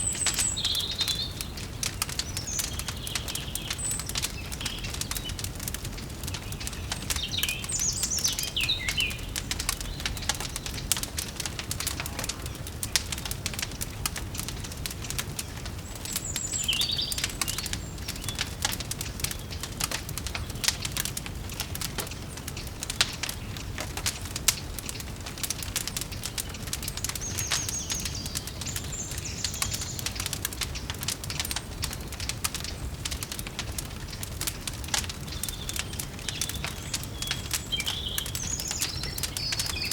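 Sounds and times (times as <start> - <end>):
birds chirping: 0.0 - 39.9
wood fire crackling: 0.0 - 39.9.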